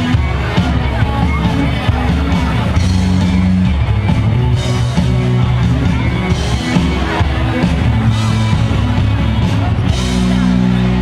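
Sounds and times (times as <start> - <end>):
bass guitar: 0.0 - 11.0
drums: 0.0 - 11.0
electric guitar: 0.0 - 11.0.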